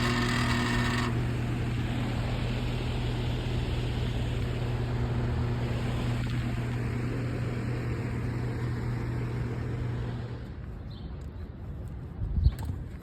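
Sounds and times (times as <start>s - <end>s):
air conditioner unit humming: 0.0s - 10.7s.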